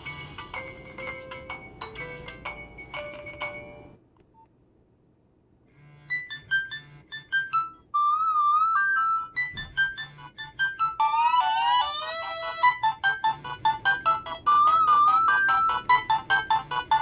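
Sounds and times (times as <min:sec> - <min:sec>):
phone ringtone beeping melody: 0:00.0 - 0:04.0, 0:06.1 - 0:17.0
ringtone tune with trill: 0:00.0 - 0:04.0, 0:06.0 - 0:17.0.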